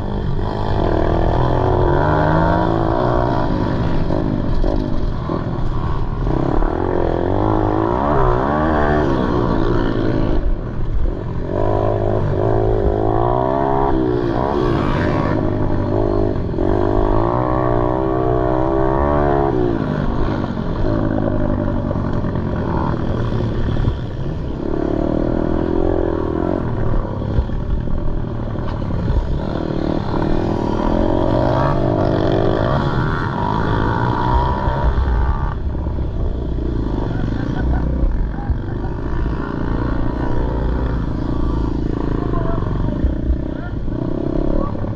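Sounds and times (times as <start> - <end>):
pit bike engine racing: 0.0 - 44.9.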